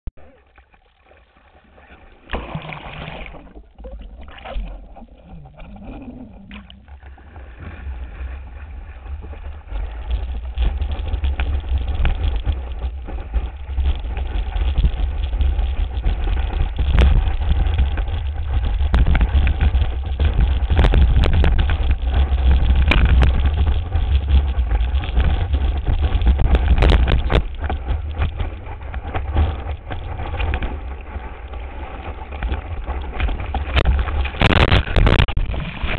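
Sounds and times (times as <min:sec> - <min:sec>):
water rushing: 0:00.2 - 0:35.9.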